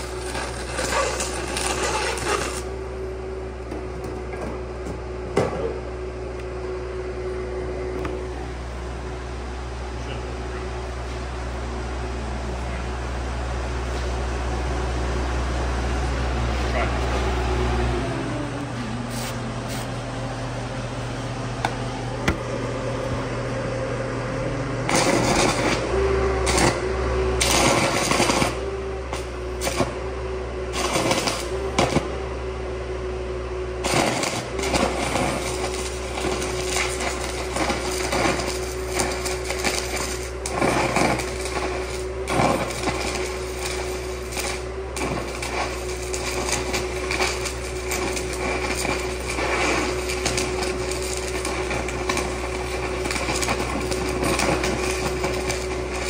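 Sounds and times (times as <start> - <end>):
welding arc crackling: 0.0 - 4.9, 8.0 - 23.3, 24.2 - 32.4, 33.6 - 56.0
welder engine humming: 0.0 - 56.0.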